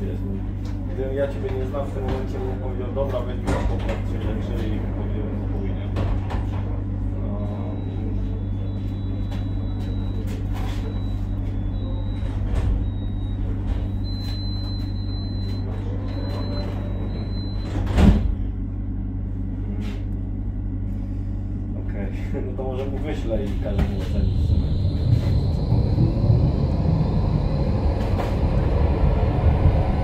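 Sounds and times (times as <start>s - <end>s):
tram electrical hum: 0.0s - 30.0s.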